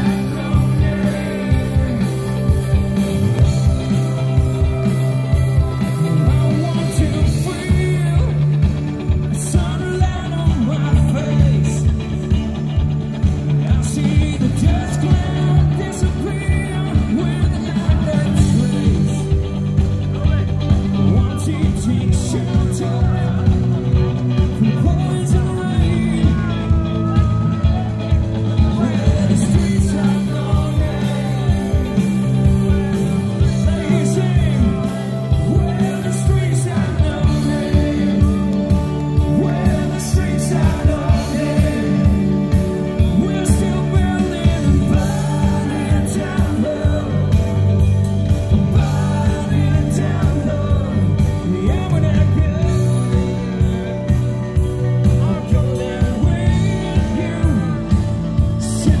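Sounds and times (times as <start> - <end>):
person singing: 0.0 - 12.5, 13.4 - 59.0
bass guitar: 0.0 - 59.0
electric guitar: 0.0 - 59.0.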